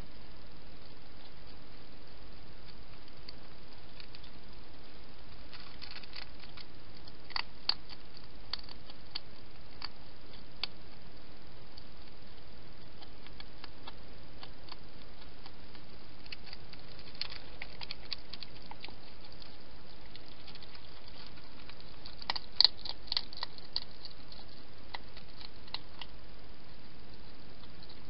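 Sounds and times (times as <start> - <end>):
steady hiss: 0.0 - 28.0
hedgehog eating crunches: 0.8 - 28.0.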